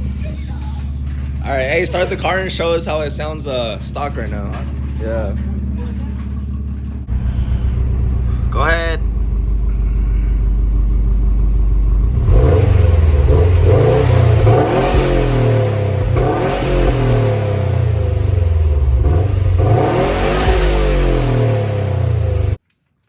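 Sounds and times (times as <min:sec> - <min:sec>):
car engine idling and revving: 0:00.0 - 0:22.6.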